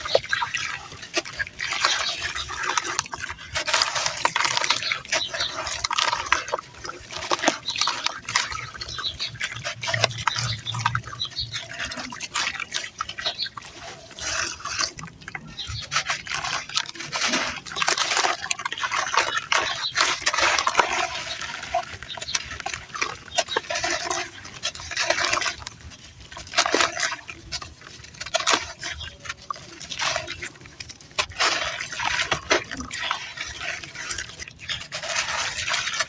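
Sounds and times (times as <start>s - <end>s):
crunching of gritty dirt: 0.0s - 36.0s.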